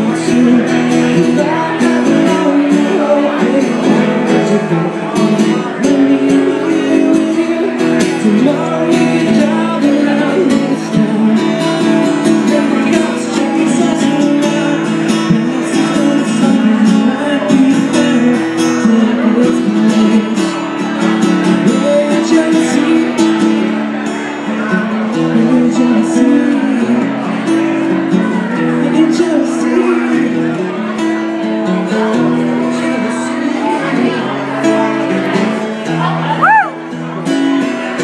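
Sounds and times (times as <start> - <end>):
person singing: 0.0 - 23.9, 24.5 - 31.0, 31.8 - 36.8
acoustic guitar strumming: 0.0 - 38.0.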